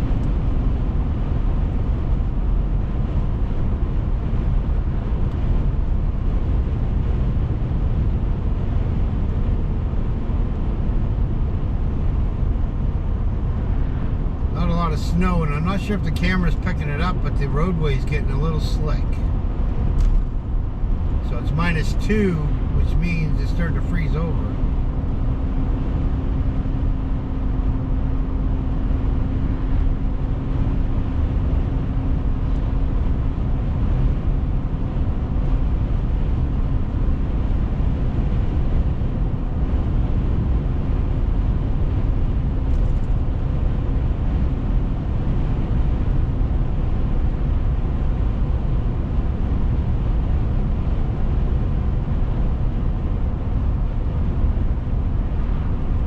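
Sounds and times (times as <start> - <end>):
car road and engine rumble: 0.0 - 56.0
low hum: 0.0 - 56.0.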